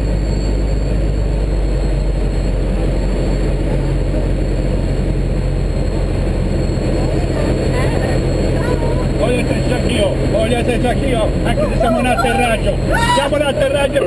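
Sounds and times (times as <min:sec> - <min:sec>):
piston aircraft engine droning: 0:00.0 - 0:14.0.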